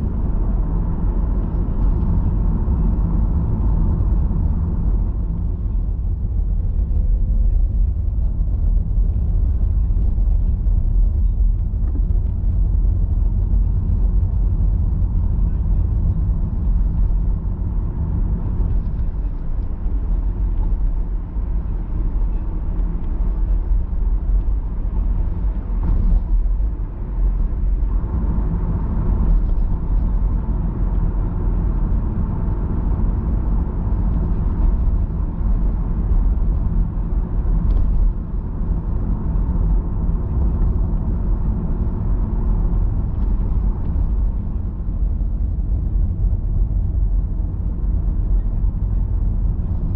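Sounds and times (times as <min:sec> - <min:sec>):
car cabin road rumble: 0:00.0 - 0:49.9.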